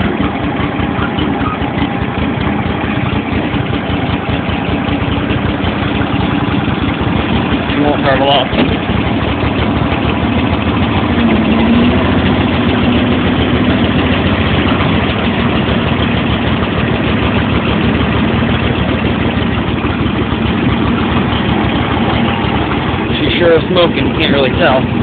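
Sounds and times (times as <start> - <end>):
lawn tractor engine idling: 0.0 - 25.0.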